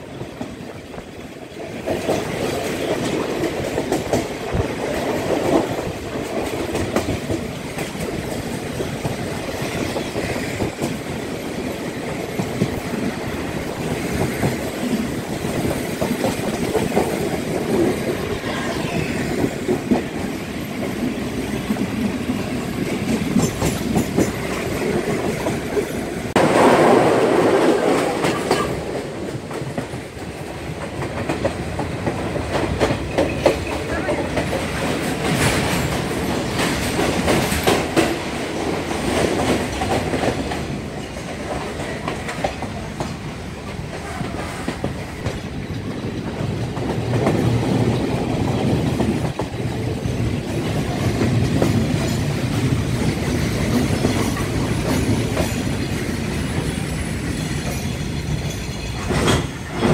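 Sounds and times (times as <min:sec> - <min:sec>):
passenger train rumbling: 0:00.0 - 0:59.9
wheels clacking over rail joints: 0:00.0 - 0:59.9.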